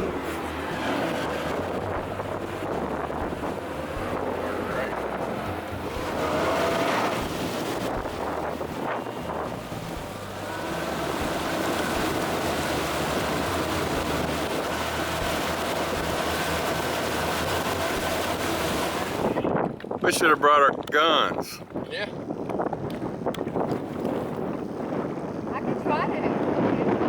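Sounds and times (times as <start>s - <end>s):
water slapping hull: 0.0s - 21.0s, 21.6s - 27.0s
outboard motor running: 0.0s - 27.0s
wind buffeting microphone: 0.0s - 27.0s.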